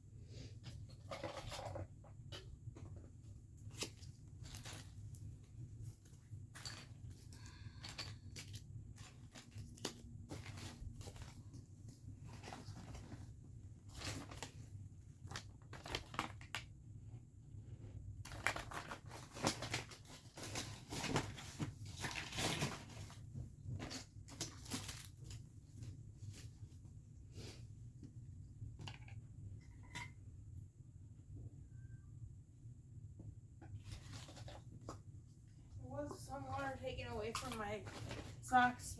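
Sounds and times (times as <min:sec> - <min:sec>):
plastic clutter rustling and crinkling: 0:00.3 - 0:27.7, 0:33.6 - 0:38.9.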